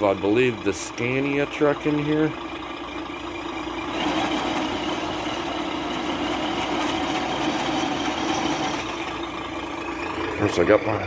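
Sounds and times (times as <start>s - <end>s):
simulated diesel engine idling: 0.0s - 11.0s.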